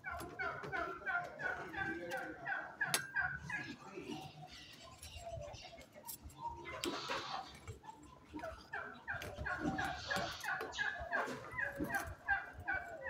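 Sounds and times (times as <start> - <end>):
animal calling: 0.0 - 13.0.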